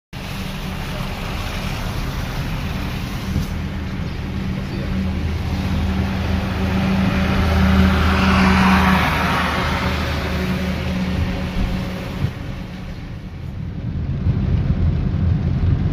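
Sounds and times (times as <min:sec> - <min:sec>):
tyres hissing on wet road: 0:00.2 - 0:13.6
car engine hum: 0:00.2 - 0:15.9.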